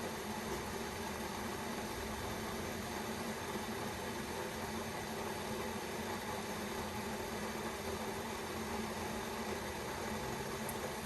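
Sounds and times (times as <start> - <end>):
kettle boiling: 0.0 - 11.0.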